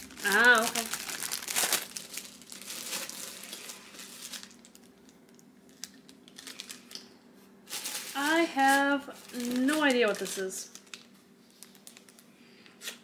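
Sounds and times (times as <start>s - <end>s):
packaging crinkling and rustling: 0.0s - 7.1s, 7.7s - 13.0s.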